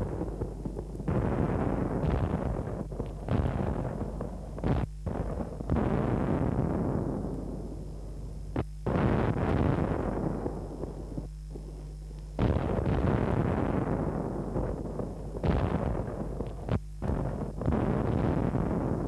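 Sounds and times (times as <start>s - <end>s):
deep booms: 0.0s - 7.7s, 8.5s - 11.8s, 12.4s - 19.0s
low electrical hum: 0.0s - 19.0s.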